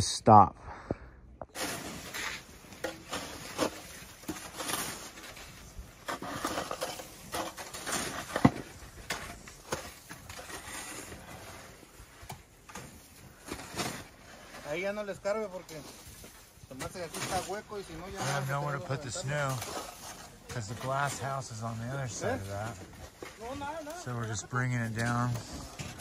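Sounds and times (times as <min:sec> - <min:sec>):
snow shovels scraping packed snow: 0:01.6 - 0:26.0.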